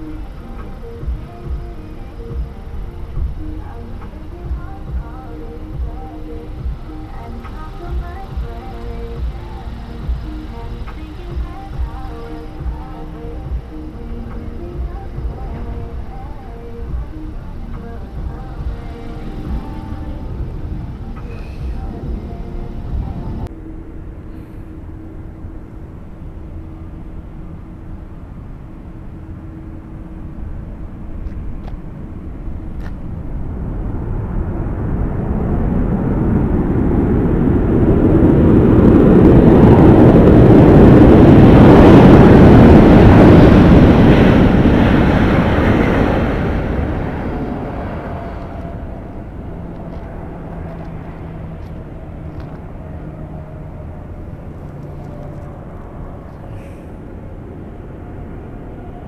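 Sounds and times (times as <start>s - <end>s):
jet aircraft passing: 0.0s - 59.0s.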